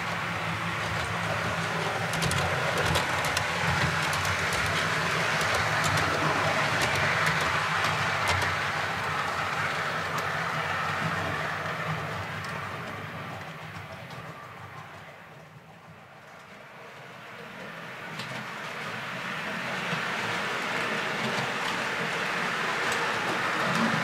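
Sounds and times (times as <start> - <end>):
model train motor humming: 0.0 - 15.3, 16.3 - 24.0
wheels rumbling over rail joints: 0.0 - 24.0.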